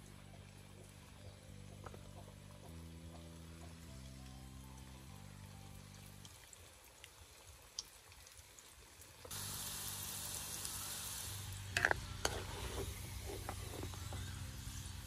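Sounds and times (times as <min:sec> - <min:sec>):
deep-frying sizzle: 0:00.0 - 0:15.0.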